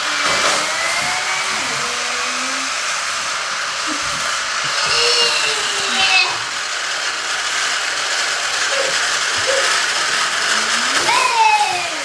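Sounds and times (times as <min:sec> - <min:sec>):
electric motor whirring: 0:00.0 - 0:12.0.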